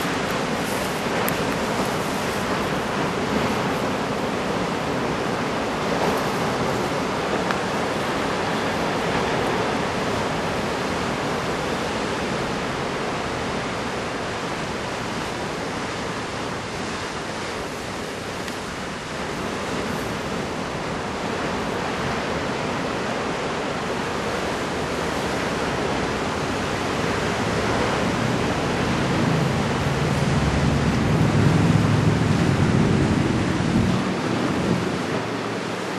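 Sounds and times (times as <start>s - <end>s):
heavy surf breaking: 0.0s - 35.9s.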